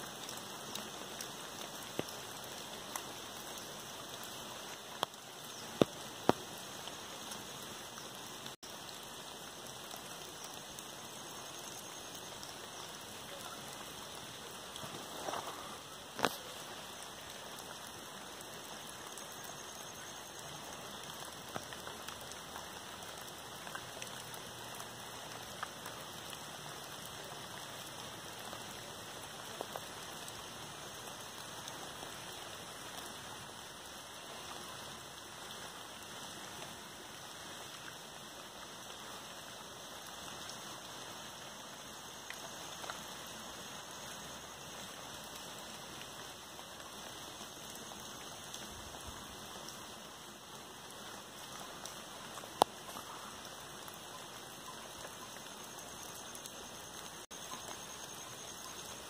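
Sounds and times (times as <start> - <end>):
rain on foliage: 0.0 - 59.0.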